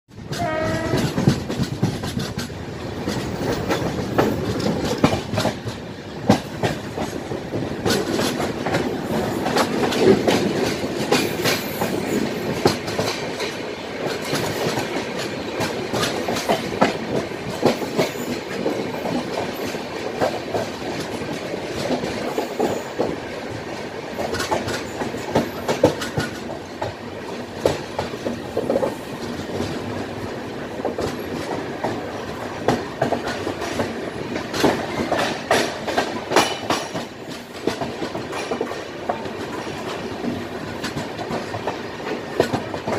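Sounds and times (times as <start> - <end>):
train rumble: 0.1 - 42.9
wheels clacking over rail joints: 0.1 - 42.9.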